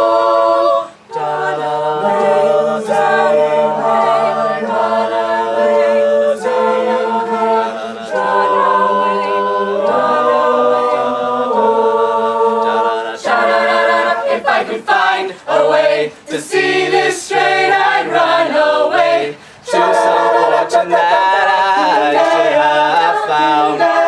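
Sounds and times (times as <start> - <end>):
a cappella group singing chords: 0.0 - 24.0.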